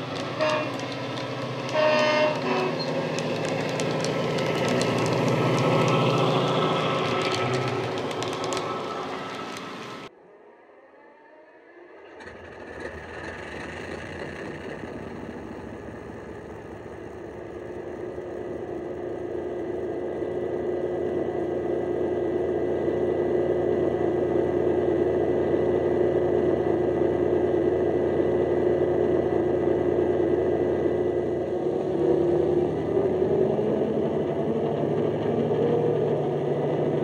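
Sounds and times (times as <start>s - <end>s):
diesel locomotive engine drone: 0.0s - 37.0s.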